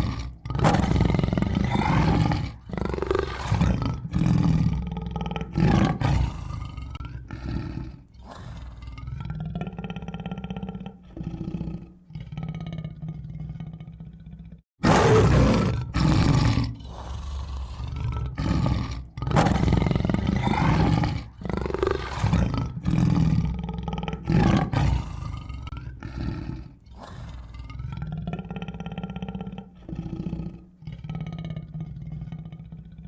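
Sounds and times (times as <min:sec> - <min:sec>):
tiger growling: 0:00.0 - 0:33.0
tiger roaring: 0:00.0 - 0:33.0.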